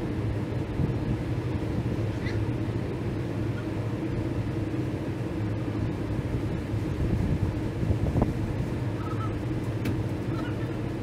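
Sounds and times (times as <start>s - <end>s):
crane engine droning: 0.0s - 11.0s.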